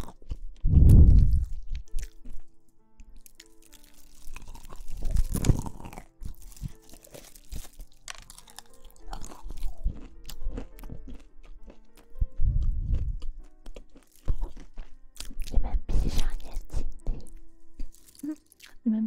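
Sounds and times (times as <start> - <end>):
crunchy chewing and biting: 0.0 - 18.8
soft background music: 0.0 - 19.0.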